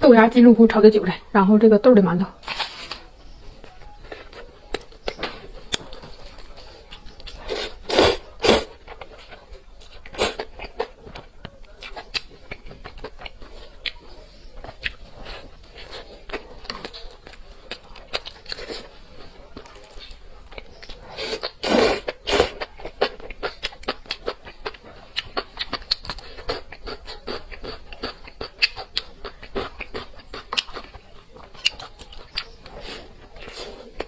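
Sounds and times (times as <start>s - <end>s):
chewing with mouth clicks: 3.6s - 34.0s.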